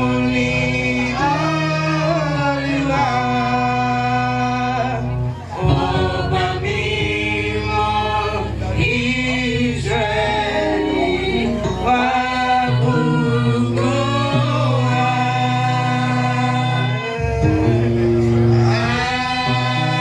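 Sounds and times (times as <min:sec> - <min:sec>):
church choir singing gospel: 0:00.0 - 0:20.0
steady bass accompaniment: 0:00.0 - 0:20.0.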